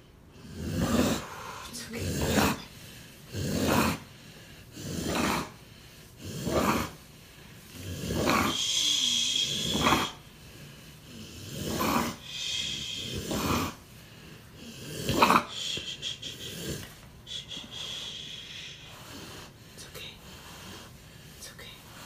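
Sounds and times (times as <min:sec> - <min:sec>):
dog rasping breaths: 0:00.4 - 0:22.0.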